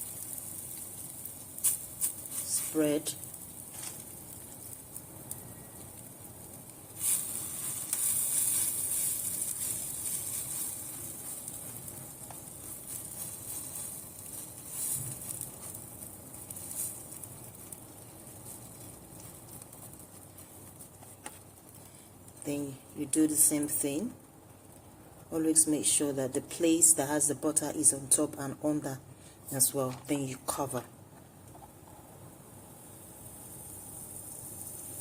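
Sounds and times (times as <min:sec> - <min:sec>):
bread sizzling in a sandwich toaster: 0:00.0 - 0:26.0, 0:31.5 - 0:35.0.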